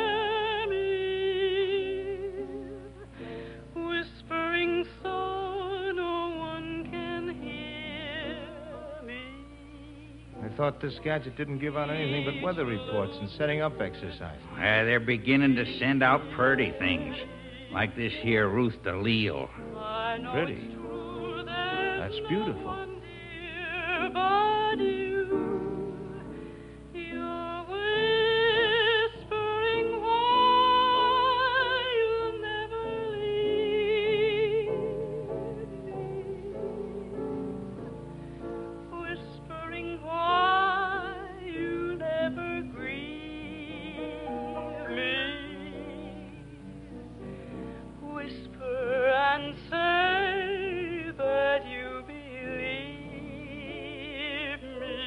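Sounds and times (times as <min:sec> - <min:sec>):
soprano singing operatically: 0:00.0 - 0:37.7, 0:38.8 - 0:46.7, 0:47.9 - 0:55.0.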